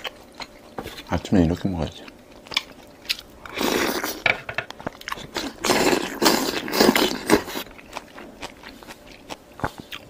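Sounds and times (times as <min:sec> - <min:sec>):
food being chewed: 0:00.0 - 0:10.0.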